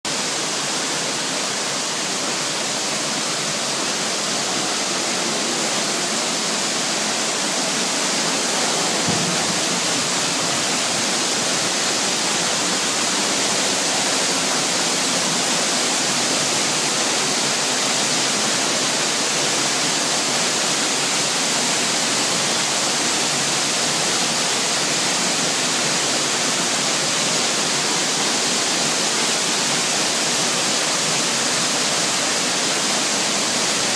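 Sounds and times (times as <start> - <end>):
waterfall rushing and splashing: 0.0 - 33.9.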